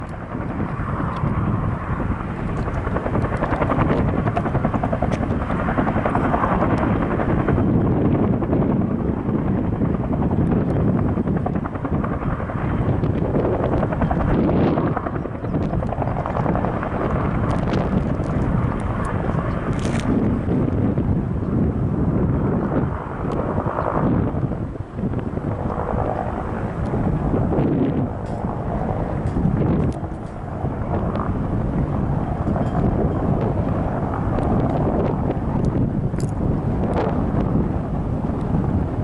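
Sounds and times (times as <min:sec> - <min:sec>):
helicopter rotor and turbine: 0:00.0 - 0:39.0.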